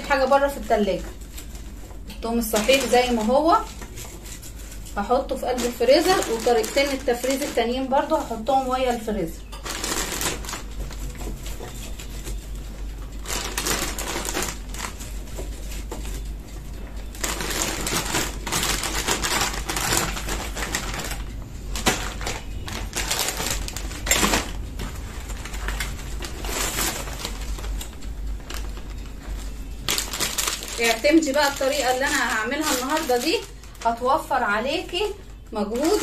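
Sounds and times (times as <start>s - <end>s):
plastic bag crinkling: 0.0s - 36.0s.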